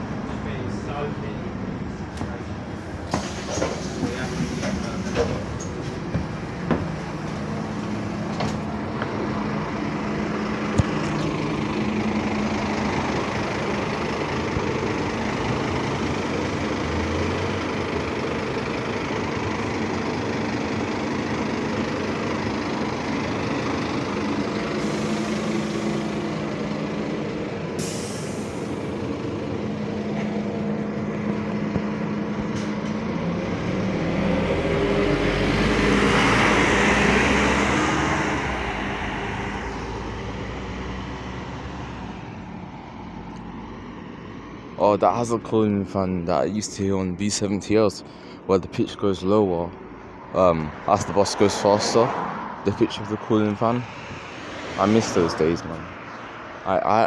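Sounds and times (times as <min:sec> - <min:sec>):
bus engine humming: 0:00.0 - 0:57.0.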